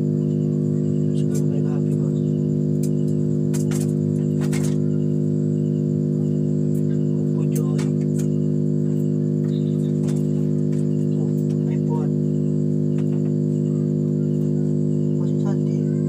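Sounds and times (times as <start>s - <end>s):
loud electrical hum: 0.0s - 16.0s.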